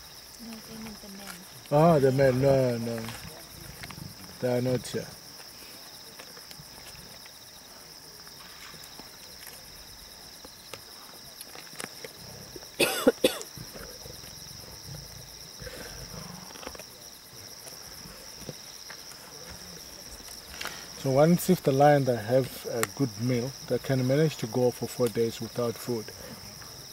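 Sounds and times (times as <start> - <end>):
crickets chirping: 0.0 - 26.9.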